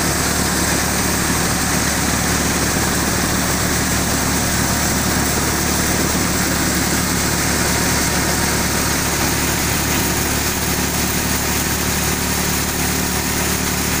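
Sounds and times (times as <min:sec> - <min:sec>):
grain pouring: 0:00.0 - 0:14.0
grain thresher running: 0:00.0 - 0:14.0.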